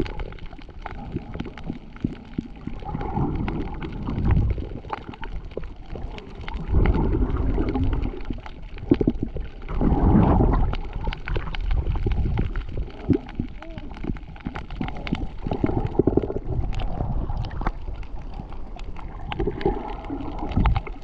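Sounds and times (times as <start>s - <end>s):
underwater gurgling and sloshing: 0.0s - 21.0s.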